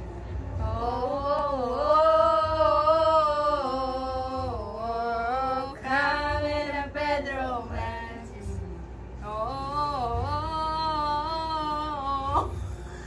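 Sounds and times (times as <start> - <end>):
woman singing wordless notes: 0.4 - 12.7.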